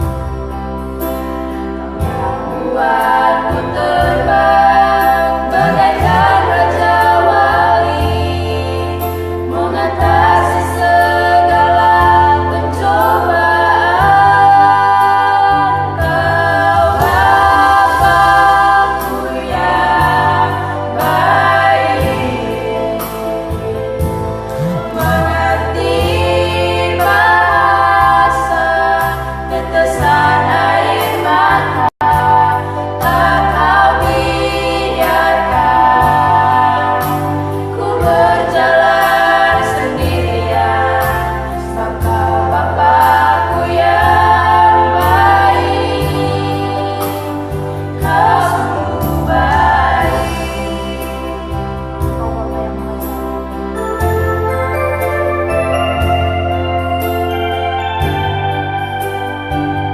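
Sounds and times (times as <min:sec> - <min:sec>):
instrumental accompaniment: 0:00.0 - 0:59.9
steady bass line: 0:00.0 - 0:59.9
children singing in harmony: 0:01.9 - 0:59.9.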